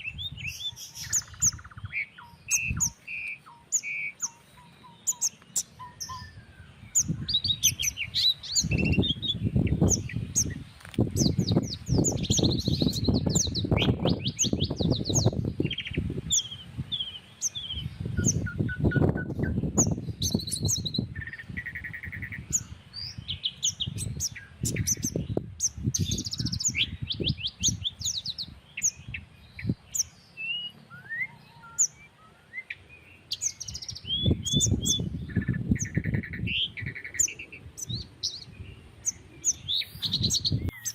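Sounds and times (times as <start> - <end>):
wind rumble on microphone: 0.0 - 3.1, 5.6 - 30.4, 33.4 - 40.9
small birds chirping and trilling: 0.0 - 40.9.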